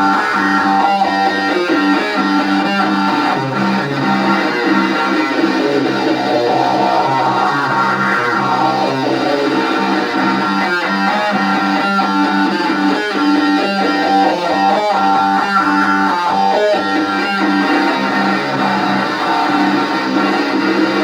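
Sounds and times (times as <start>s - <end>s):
distorted electric guitar riff: 0.0s - 21.0s.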